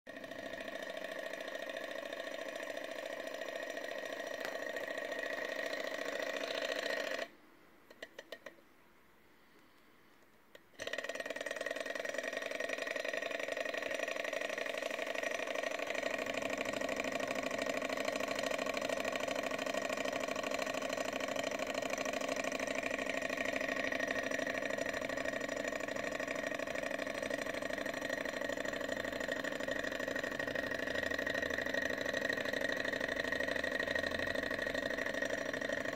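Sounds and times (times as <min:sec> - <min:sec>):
engine mechanical whirr: 0:00.1 - 0:08.7, 0:09.4 - 0:35.9.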